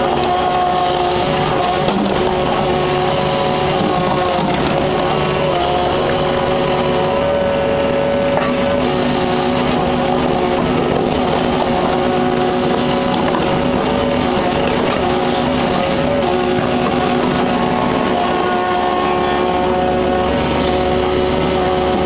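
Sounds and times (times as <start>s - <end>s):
excavator diesel engine running: 0.0s - 22.0s
whining tones: 0.0s - 22.0s.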